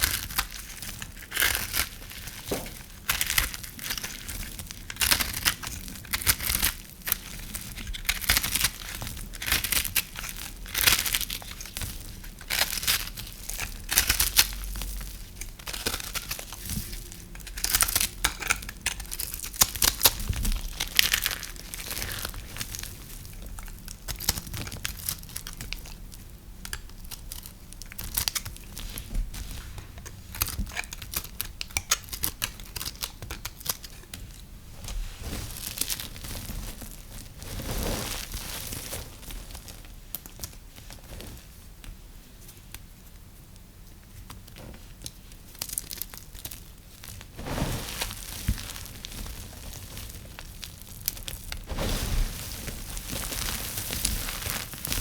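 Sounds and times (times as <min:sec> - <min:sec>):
dry soap crumbling: 0:00.0 - 0:41.4, 0:45.0 - 0:55.0.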